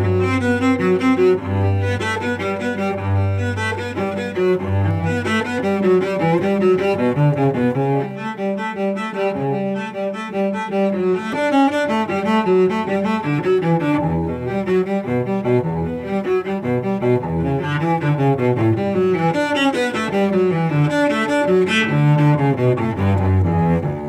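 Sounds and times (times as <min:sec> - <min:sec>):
bowed cello melody: 0:00.0 - 0:24.0
long low cello notes: 0:00.0 - 0:24.0.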